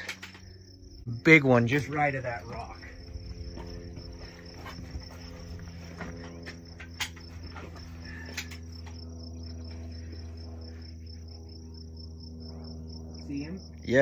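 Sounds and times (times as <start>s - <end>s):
insects chirping: 0.0s - 14.0s
low steady hum: 0.0s - 14.0s.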